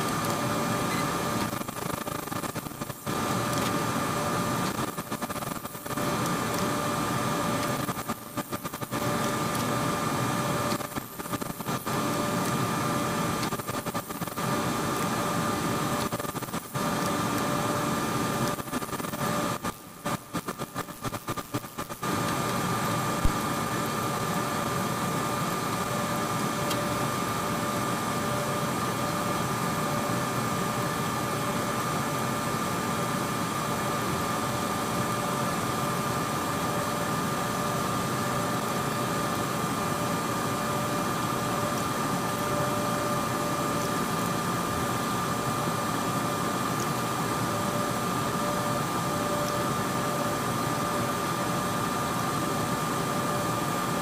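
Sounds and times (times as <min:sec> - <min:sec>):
cabinet blower air rush and whine: 0:00.0 - 0:54.0.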